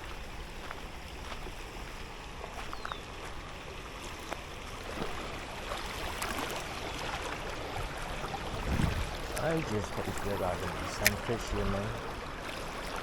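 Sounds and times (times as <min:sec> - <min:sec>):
river water running over rocks: 0:00.0 - 0:13.0.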